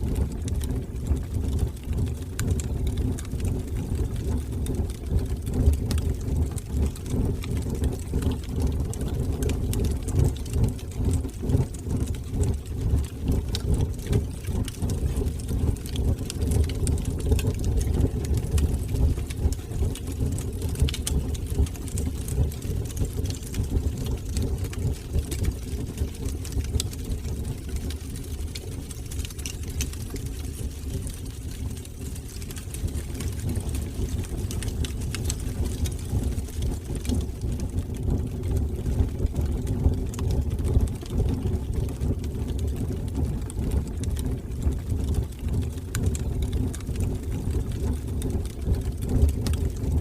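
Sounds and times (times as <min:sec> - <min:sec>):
fire crackling and popping: 0:00.0 - 0:50.0
fire roaring in fireplace: 0:00.0 - 0:50.0.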